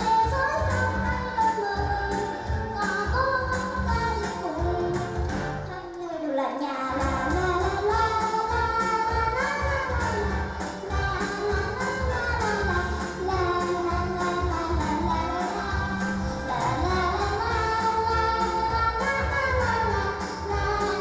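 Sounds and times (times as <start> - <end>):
musical accompaniment with beat: 0.0 - 6.1, 6.9 - 21.0
girl singing into a microphone: 0.0 - 21.0.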